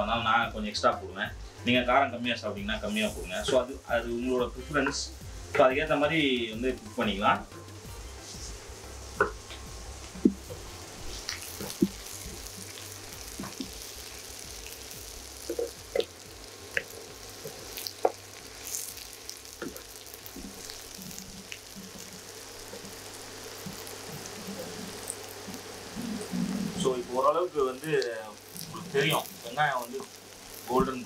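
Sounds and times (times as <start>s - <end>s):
shallots sizzling in oil: 0.0s - 31.0s.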